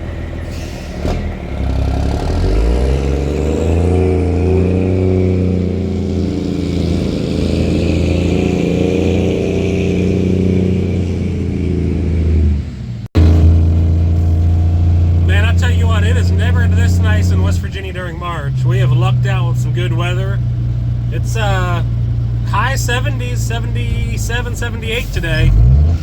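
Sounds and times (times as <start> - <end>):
diesel truck engine under load: 0.0 - 26.0.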